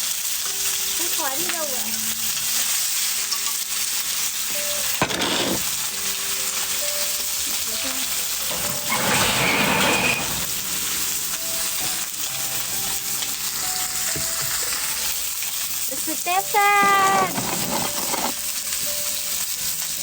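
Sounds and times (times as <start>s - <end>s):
wood fire crackling: 0.0s - 20.0s
sharp fire crack: 2.4s - 20.0s.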